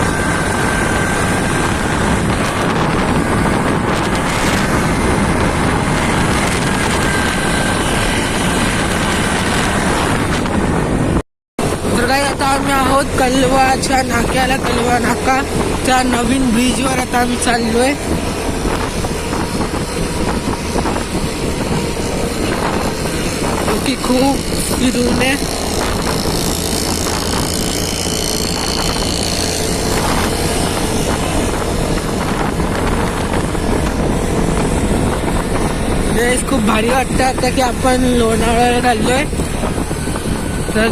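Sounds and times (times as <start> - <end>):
motorcycle road noise: 0.0 - 40.9
wind rushing over microphone: 0.0 - 40.9.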